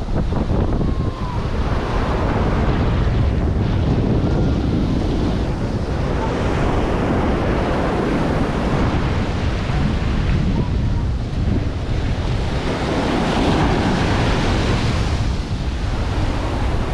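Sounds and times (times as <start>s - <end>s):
ocean surf on beach: 0.0s - 16.9s
wind buffeting microphone: 0.0s - 16.9s.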